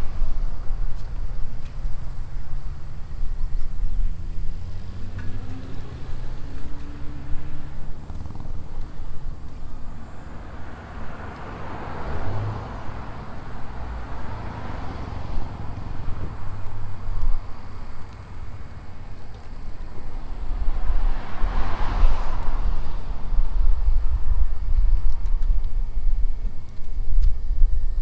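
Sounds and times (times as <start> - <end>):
low rumble: 0.0 - 28.0
vehicles passing: 0.0 - 28.0.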